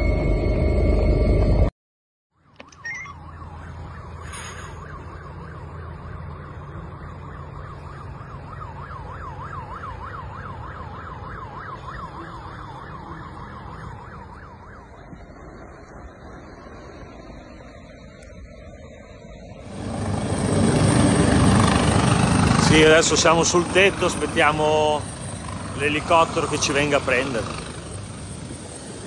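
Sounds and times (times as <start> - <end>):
emergency vehicle siren yelping: 2.5 - 29.0.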